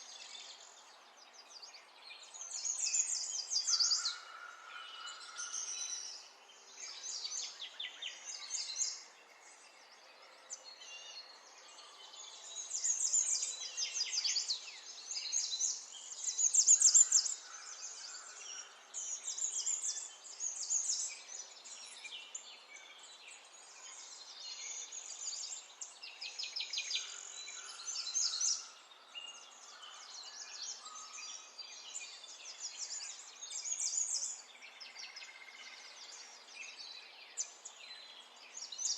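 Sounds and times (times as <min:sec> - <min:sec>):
small birds chirping trills: 0:00.0 - 0:38.9.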